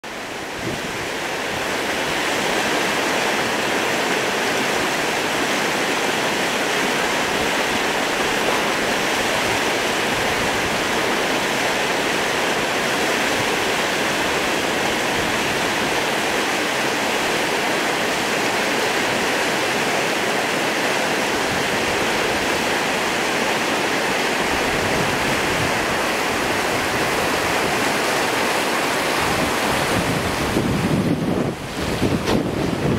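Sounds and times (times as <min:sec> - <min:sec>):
river rapid rushing: 0:00.0 - 0:32.9.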